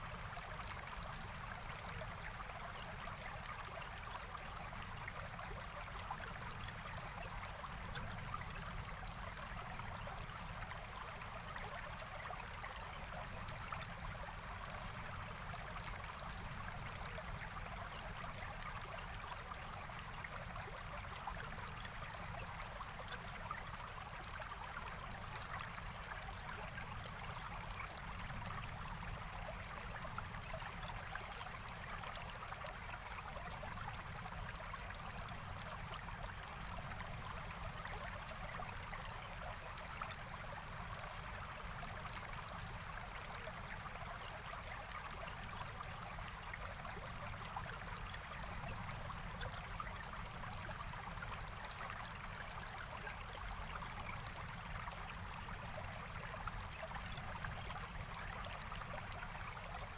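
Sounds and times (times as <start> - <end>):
forest stream flowing: 0.0 - 59.9.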